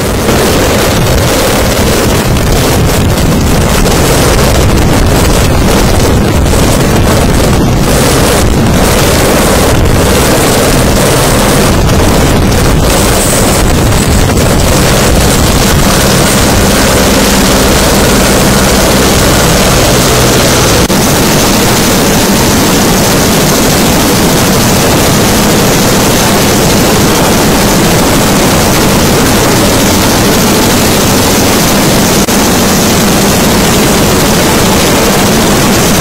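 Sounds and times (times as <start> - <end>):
helicopter rotor and engine: 0.0 - 36.0
wind buffeting microphone: 0.0 - 36.0.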